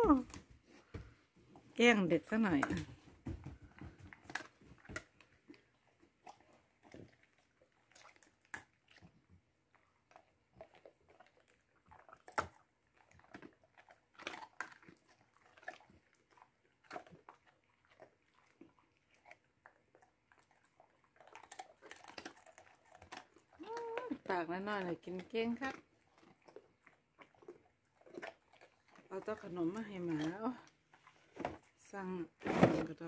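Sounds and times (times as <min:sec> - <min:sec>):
dog chewing a biscuit: 0:02.6 - 0:31.8.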